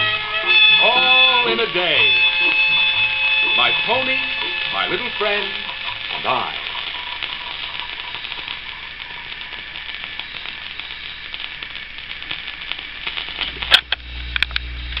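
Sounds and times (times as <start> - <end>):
low hum: 0.0 - 12.1
record surface hiss and crackle: 0.0 - 15.0
sharp loud clicks: 0.8 - 15.0.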